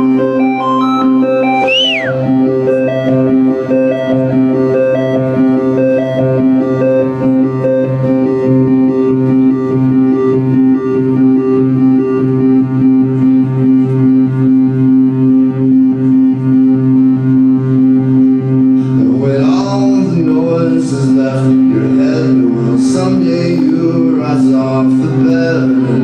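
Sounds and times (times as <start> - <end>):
live band drone on one chord: 0.0 - 26.0.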